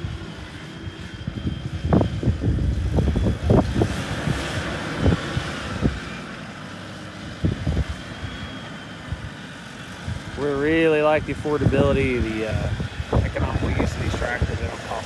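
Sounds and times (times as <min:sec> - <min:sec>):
wind buffeting microphone: 0:00.0 - 0:06.3, 0:07.2 - 0:15.0
vehicle engine running: 0:00.0 - 0:15.0.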